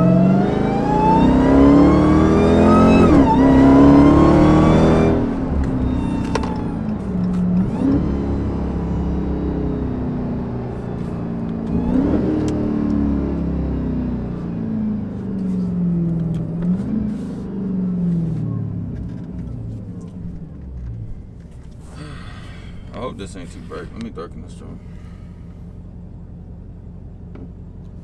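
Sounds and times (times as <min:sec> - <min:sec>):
car engine driving slowly: 0:00.0 - 0:28.0.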